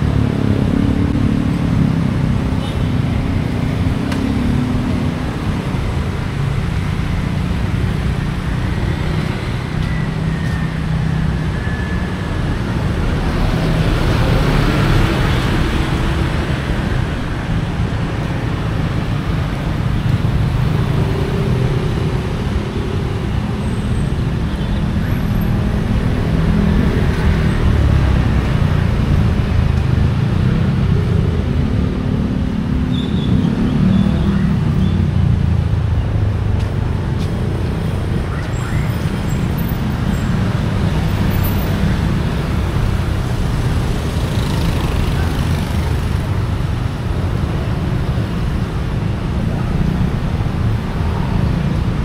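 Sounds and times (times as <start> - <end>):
vehicle engines rumbling: 0.0 - 52.0.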